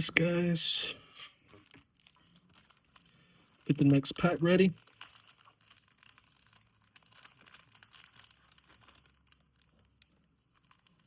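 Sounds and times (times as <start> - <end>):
packaging crinkling and rustling: 1.4 - 11.0.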